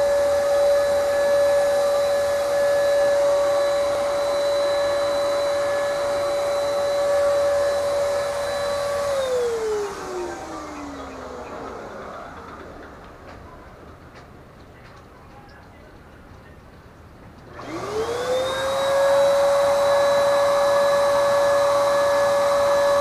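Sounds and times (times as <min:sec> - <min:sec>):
electric paint spray gun whining: 0:00.0 - 0:14.3, 0:17.5 - 0:23.0.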